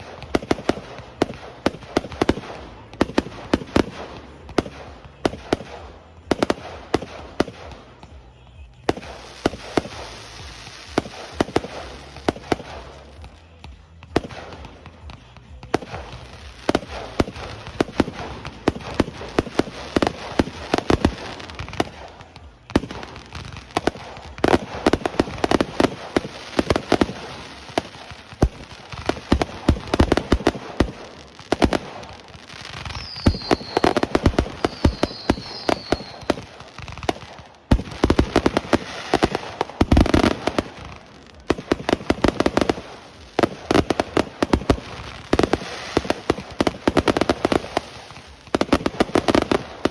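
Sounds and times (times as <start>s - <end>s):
fireworks bangs and booms: 0.0s - 49.9s
fireworks crackling: 0.0s - 49.9s.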